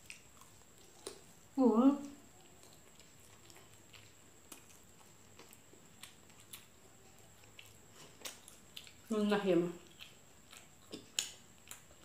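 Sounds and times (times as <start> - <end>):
chewing mouth clicks and smacks: 0.0 - 1.4, 2.0 - 9.1, 9.8 - 12.0
low room noise: 0.0 - 12.0.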